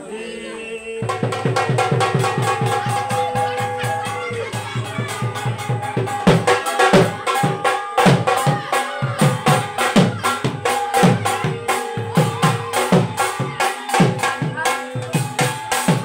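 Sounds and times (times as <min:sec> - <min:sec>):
booming folk drumming: 0:01.0 - 0:16.0.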